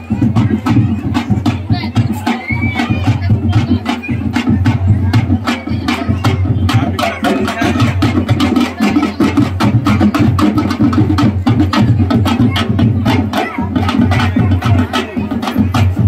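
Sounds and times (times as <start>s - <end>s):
band playing dance music: 0.0s - 16.0s
drums beating fast rhythm: 0.0s - 16.0s.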